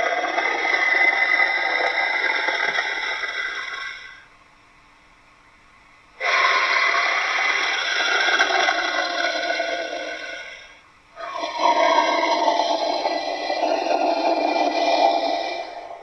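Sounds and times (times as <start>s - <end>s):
dinosaur roar sound effect: 0.0s - 4.2s, 6.2s - 16.0s.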